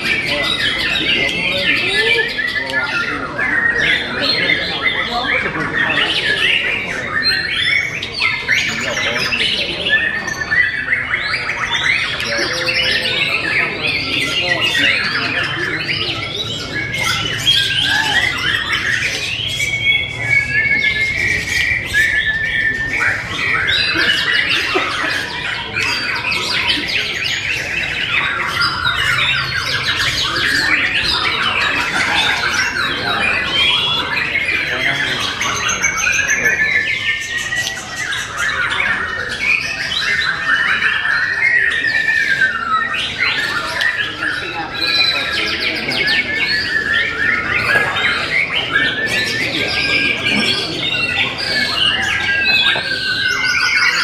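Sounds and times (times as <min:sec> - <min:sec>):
songbird singing trills and whistles: 0:00.0 - 0:54.0.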